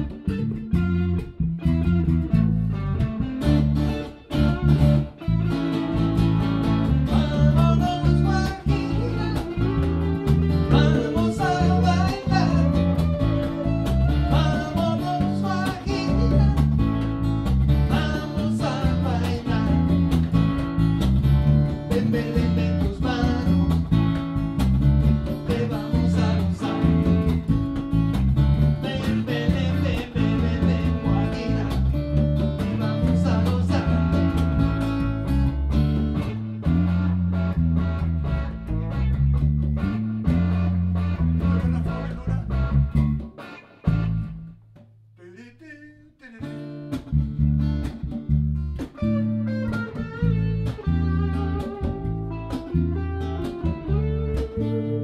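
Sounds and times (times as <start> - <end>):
deep bass line: 0.0 - 44.7, 47.0 - 55.0
acoustic and electric guitars: 0.0 - 44.9, 46.2 - 55.0.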